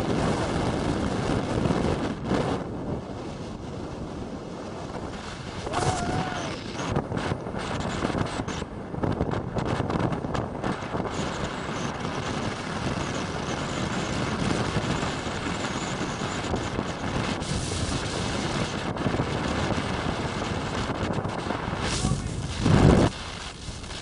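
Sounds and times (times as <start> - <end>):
strong wind on microphone: 0.0 - 24.0.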